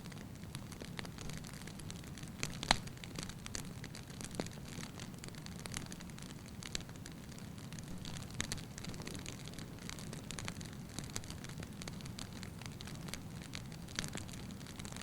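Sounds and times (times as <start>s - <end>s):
fire crackles and pops: 0.0s - 15.0s
rumble of flames: 0.0s - 15.0s.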